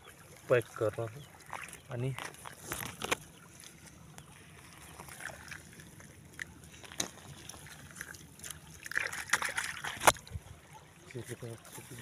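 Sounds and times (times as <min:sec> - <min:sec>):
water trickling faintly: 0:00.0 - 0:12.0.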